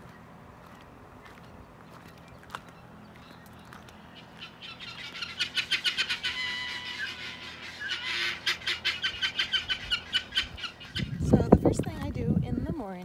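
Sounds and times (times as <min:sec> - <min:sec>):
guineafowl chattering calls: 0:00.1 - 0:11.4.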